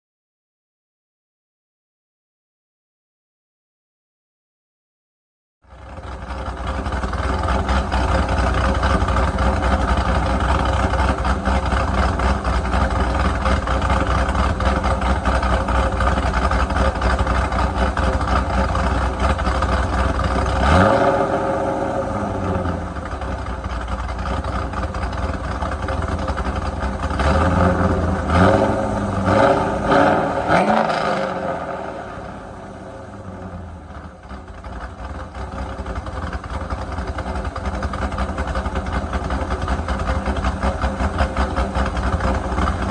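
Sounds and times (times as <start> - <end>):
car engine idling and revving: 5.7 - 42.9.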